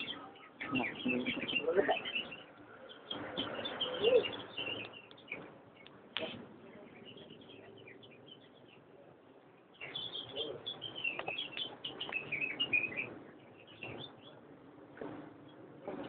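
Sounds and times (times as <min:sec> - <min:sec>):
caged birds chirping: 0:00.0 - 0:16.0.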